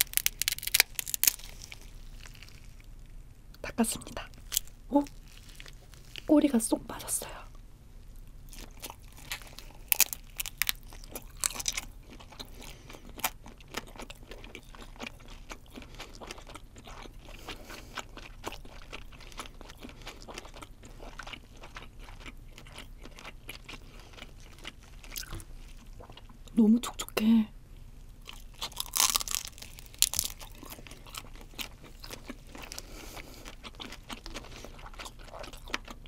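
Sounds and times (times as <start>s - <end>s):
crunchy biting and chewing: 0.0s - 3.0s, 4.3s - 6.3s, 8.5s - 26.3s, 28.2s - 36.0s.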